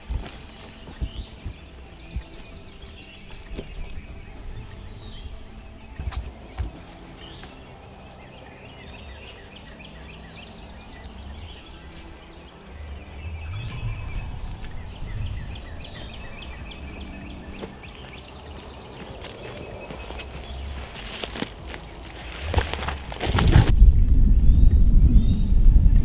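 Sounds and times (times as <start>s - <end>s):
wild birds chirping: 0.0s - 26.0s
wind rumble on microphone: 0.0s - 26.0s.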